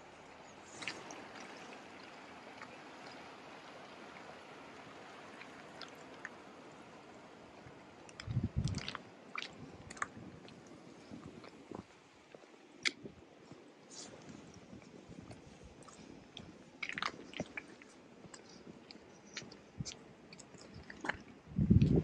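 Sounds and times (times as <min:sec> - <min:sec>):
stream running water: 0:00.0 - 0:22.0.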